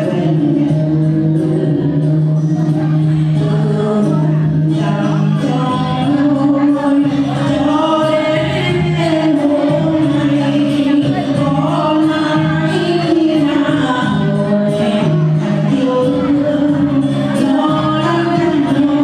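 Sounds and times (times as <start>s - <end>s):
musical accompaniment: 0.0s - 19.0s
several voices singing: 0.0s - 19.0s.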